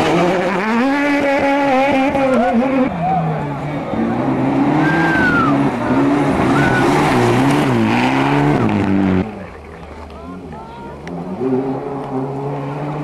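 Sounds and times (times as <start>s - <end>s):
rally car engine revving hard: 0.0s - 9.5s, 10.4s - 13.0s
distant car engine: 0.0s - 13.0s.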